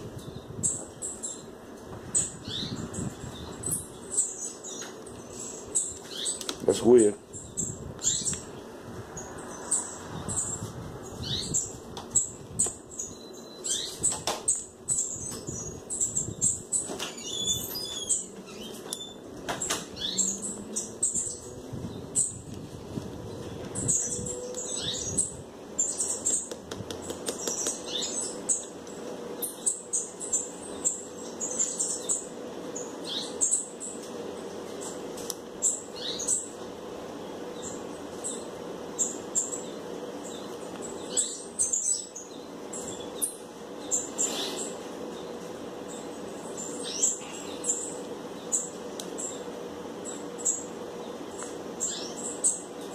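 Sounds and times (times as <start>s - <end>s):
birds chirping: 0.0s - 52.9s
faint steady hum: 0.0s - 52.9s.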